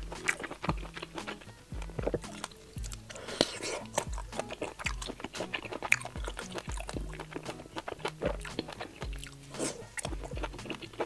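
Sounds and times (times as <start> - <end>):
background music: 0.0 - 11.0
close chewing: 0.0 - 11.0.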